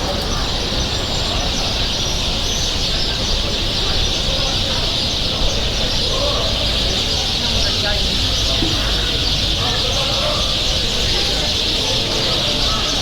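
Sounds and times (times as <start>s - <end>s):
birds chirping: 0.0s - 13.0s
low street rumble: 0.0s - 13.0s.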